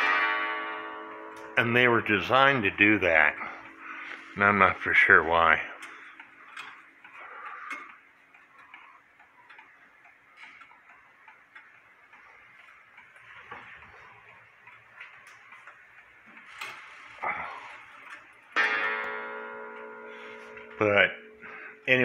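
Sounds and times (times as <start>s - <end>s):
wall clock ticking: 0.0s - 22.0s.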